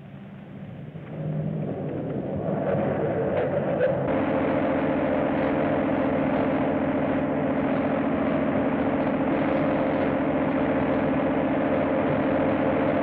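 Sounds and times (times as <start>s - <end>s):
car engine running at speed: 0.0s - 13.0s.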